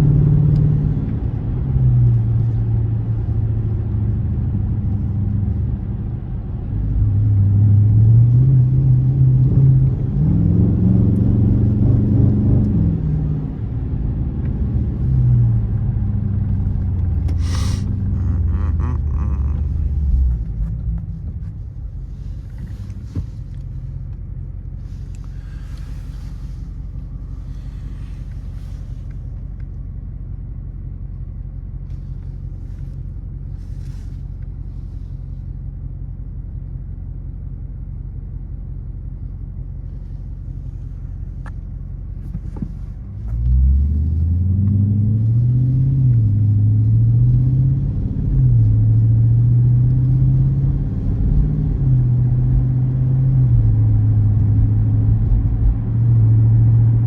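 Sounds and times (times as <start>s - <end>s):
car engine accelerating: 0.0s - 36.9s, 39.1s - 57.0s.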